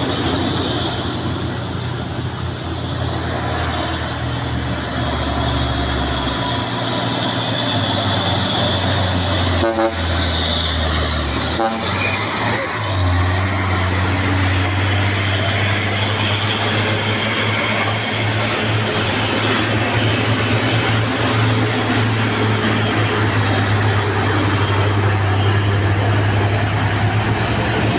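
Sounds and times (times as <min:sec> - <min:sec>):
heavy truck diesel engine running: 0:00.0 - 0:27.9.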